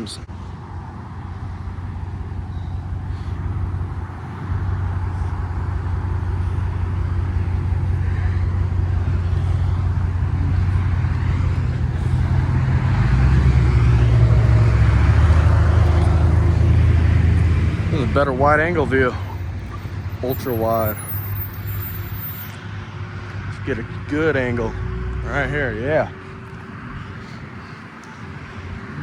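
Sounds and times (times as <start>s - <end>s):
vehicle engine running: 0.4s - 29.0s.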